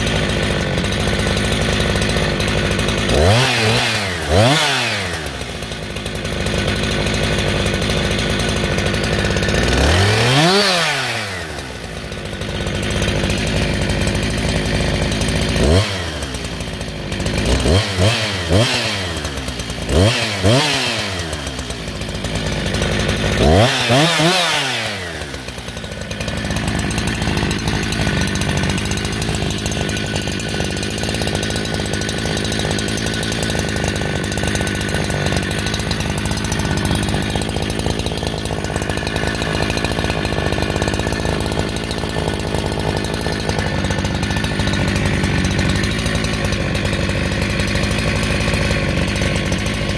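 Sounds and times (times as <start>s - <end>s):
chainsaw engine revving and idling: 0.0s - 49.9s.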